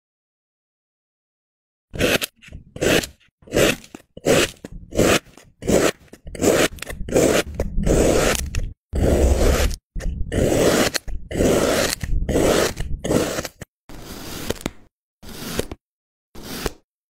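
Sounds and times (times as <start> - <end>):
metal blade cutting kinetic sand: 2.0 - 15.8, 16.4 - 16.8.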